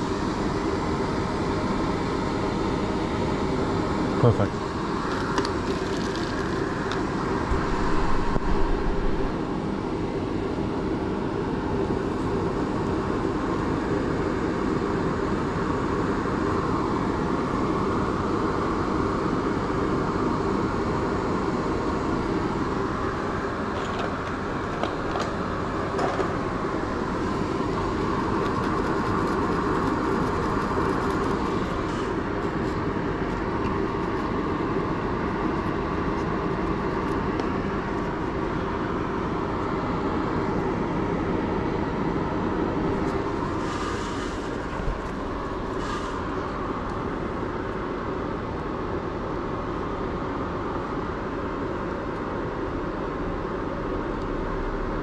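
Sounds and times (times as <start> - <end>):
fan whooshing: 0.0 - 55.0.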